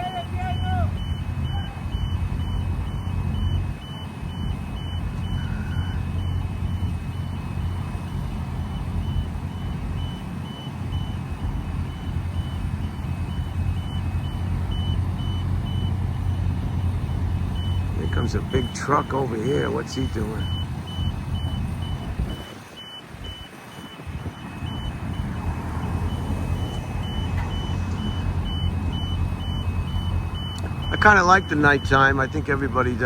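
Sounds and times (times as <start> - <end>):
big engine running: 0.0 - 33.0
reversing alarm beeping: 0.0 - 33.0.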